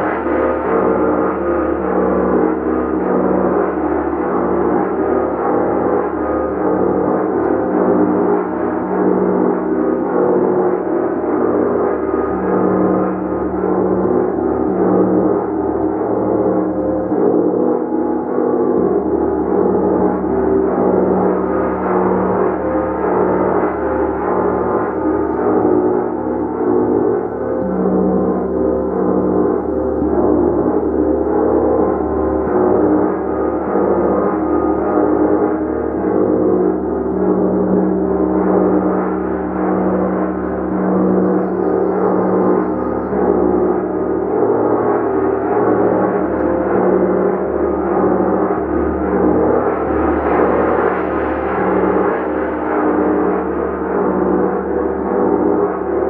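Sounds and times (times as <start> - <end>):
large gong ringing: 0.0 - 56.0.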